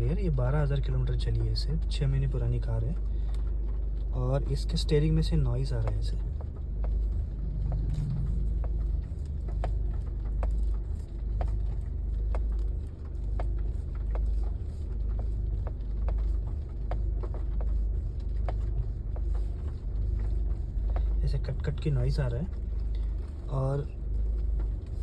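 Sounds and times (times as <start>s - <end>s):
car engine rumbling: 0.0s - 25.0s
steering clicking: 0.0s - 25.0s.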